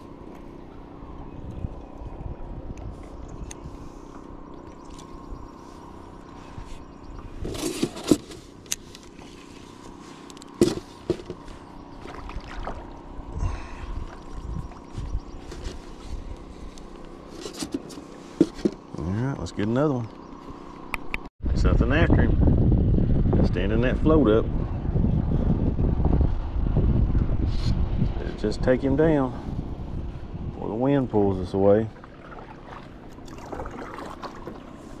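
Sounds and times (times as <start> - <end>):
wind rumbling on microphone: 0.0 - 8.5, 9.2 - 17.3, 20.9 - 35.0.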